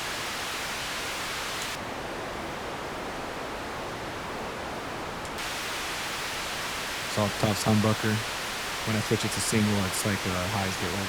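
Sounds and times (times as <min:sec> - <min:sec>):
overdriven noise hiss: 0:00.0 - 0:11.0.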